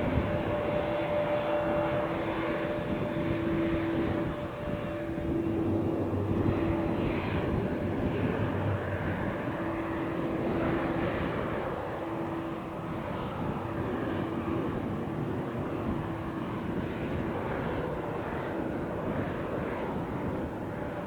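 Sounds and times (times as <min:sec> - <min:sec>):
aircraft engine rushing: 0:00.0 - 0:21.0.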